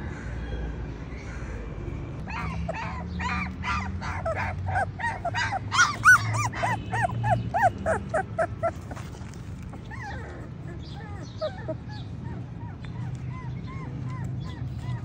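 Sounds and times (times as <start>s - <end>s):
puppies whimpering and yelping: 2.3s - 15.0s.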